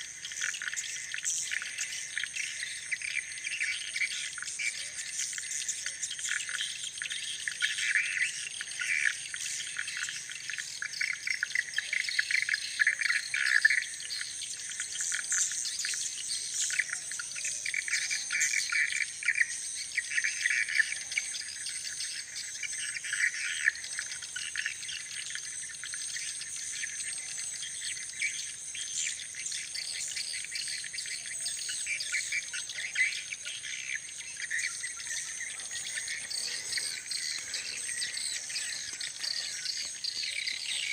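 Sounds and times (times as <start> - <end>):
songbird chirping: 0.0 - 40.9
high-pitched insect-like trill: 5.1 - 40.9.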